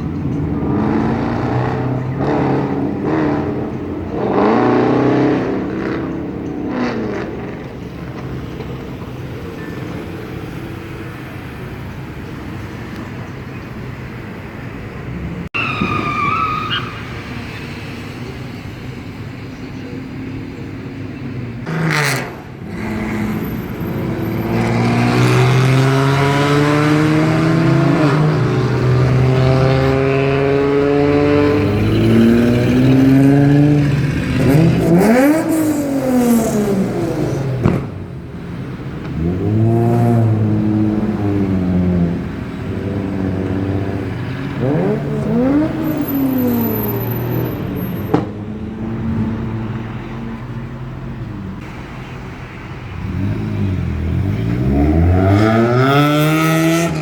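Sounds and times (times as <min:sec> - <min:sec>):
vehicle engines revving: 0:00.0 - 0:57.0.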